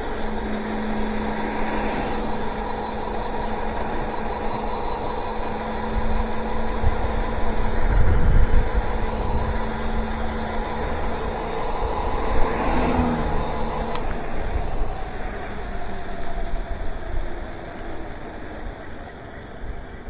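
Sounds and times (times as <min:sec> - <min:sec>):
electric motor whine: 0:00.0 - 0:20.0
wind buffeting microphone: 0:00.0 - 0:20.0.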